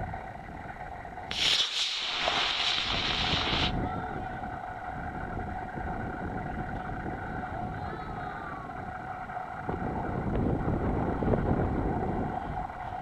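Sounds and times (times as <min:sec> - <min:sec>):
engine mechanical hum: 0:00.0 - 0:13.0
low rumbling noise: 0:00.0 - 0:13.0.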